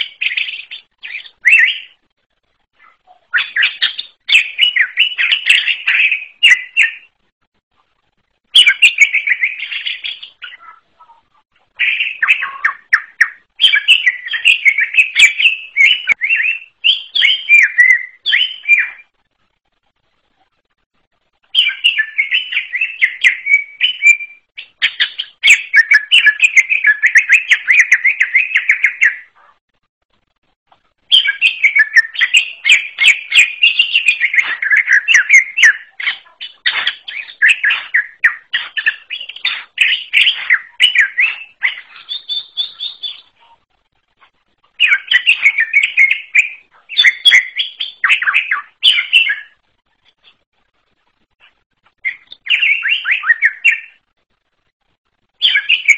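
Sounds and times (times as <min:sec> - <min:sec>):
bird warbling song: 0:00.0 - 0:02.0, 0:02.7 - 0:07.1, 0:08.5 - 0:19.1, 0:21.4 - 0:29.5, 0:31.0 - 0:43.6, 0:44.2 - 0:50.4, 0:51.4 - 0:54.1, 0:55.4 - 0:55.9.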